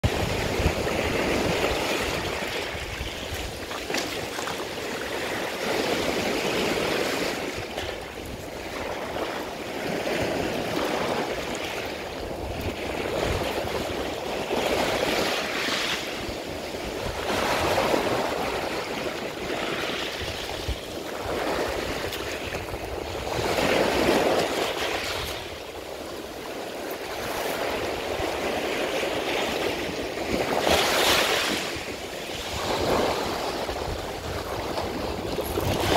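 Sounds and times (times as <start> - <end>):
waves washing onto pebbles: 0.0 - 35.9.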